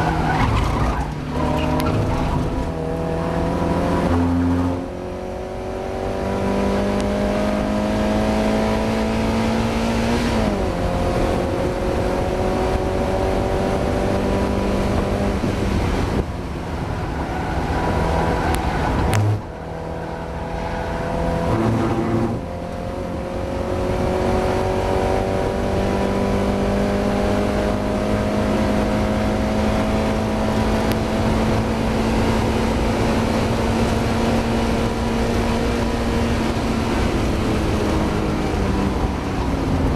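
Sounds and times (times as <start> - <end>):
car engine revving through gears: 0.0 - 16.3, 17.1 - 39.9.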